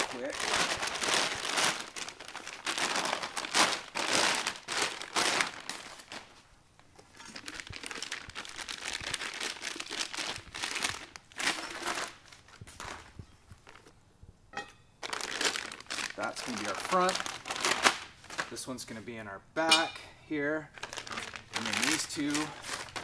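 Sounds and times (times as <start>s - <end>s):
plastic packaging crinkling: 0.0s - 13.9s, 15.0s - 18.7s, 20.7s - 23.0s.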